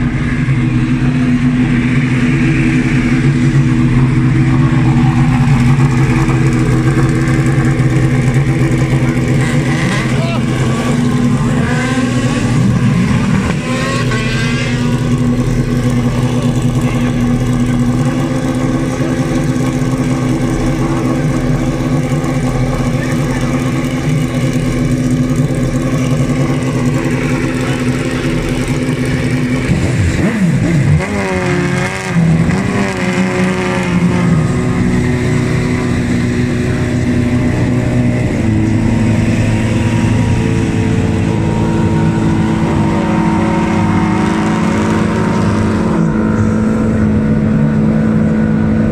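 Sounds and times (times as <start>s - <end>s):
racing car engines idling: 0.0s - 48.9s.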